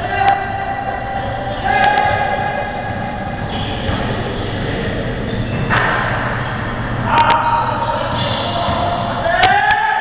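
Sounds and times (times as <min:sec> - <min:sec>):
distant voices: 0:00.0 - 0:09.9
hall noise: 0:00.0 - 0:10.0
shoe squeak: 0:01.2 - 0:09.4.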